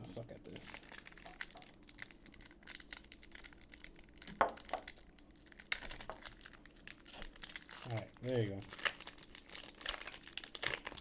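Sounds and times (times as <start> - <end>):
foil wrapper crinkling: 0.5 - 11.0.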